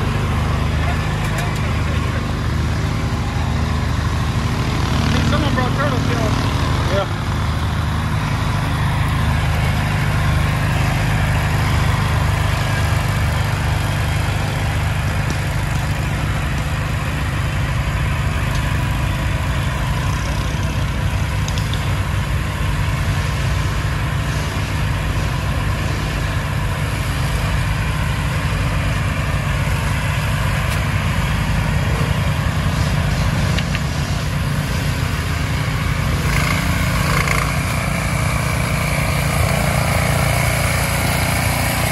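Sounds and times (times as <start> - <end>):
small tractor engine running: 0.0 - 41.9.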